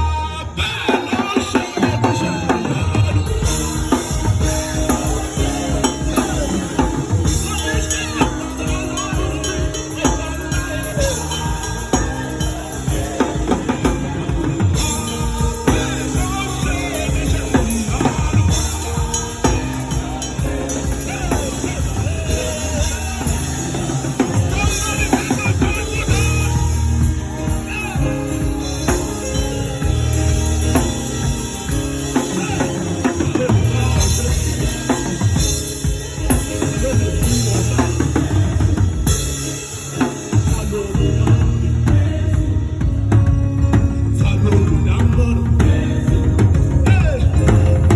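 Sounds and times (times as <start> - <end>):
drum kit hits and fills: 0.0 - 47.9
worship band music: 0.0 - 47.9
steady bass line: 1.9 - 47.9.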